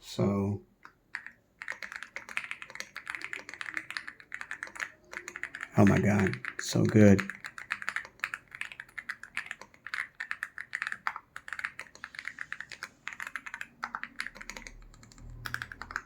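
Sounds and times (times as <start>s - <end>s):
mechanical keyboard typing: 0.8s - 16.0s.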